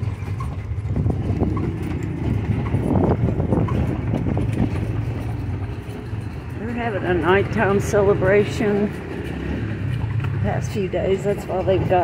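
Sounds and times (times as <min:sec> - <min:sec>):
carriage low rumble: 0:00.0 - 0:12.0
horse hooves clip-clopping: 0:00.0 - 0:12.0.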